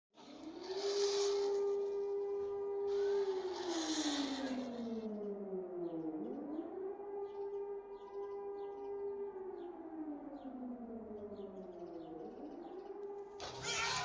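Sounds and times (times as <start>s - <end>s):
air-raid siren wailing: 0.1s - 14.0s.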